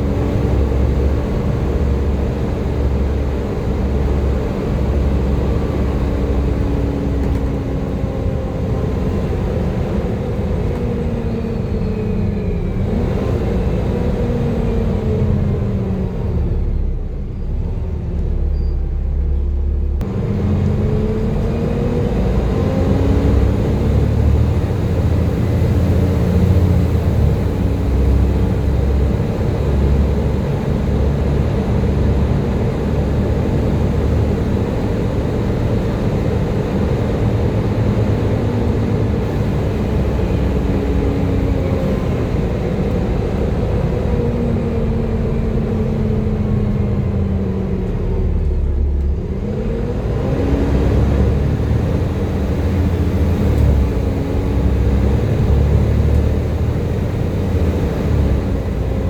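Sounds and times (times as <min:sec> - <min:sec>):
bus diesel engine rumbling: 0:00.0 - 0:59.0
engine whine: 0:00.0 - 0:59.0.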